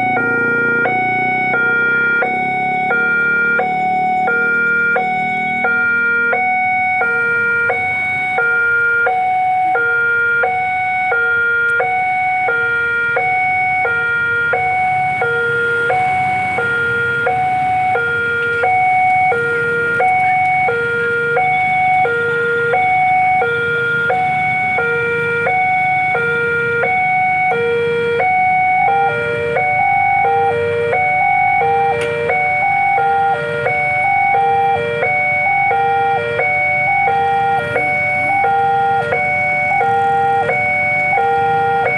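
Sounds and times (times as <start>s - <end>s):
level crossing two-tone alarm: 0.0s - 41.9s.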